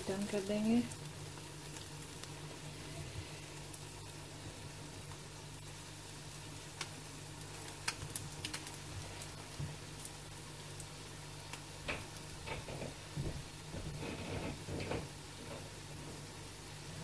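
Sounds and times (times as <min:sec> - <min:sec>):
bread sizzling in a frying pan: 0:00.0 - 0:17.0.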